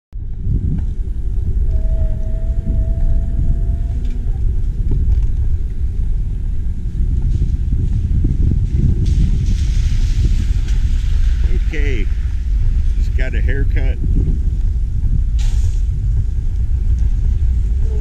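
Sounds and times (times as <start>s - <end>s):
road noise: 0.1s - 18.0s
wind rumble: 0.1s - 18.0s.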